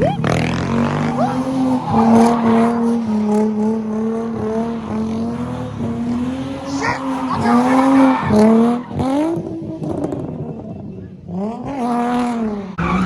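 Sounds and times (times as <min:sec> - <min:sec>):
car engine revving hard: 0:00.0 - 0:10.6
tires squealing: 0:00.0 - 0:10.6, 0:11.4 - 0:13.0.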